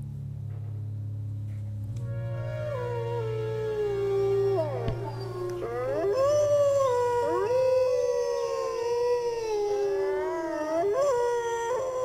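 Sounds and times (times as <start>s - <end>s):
wolves howling: 2.0s - 12.0s.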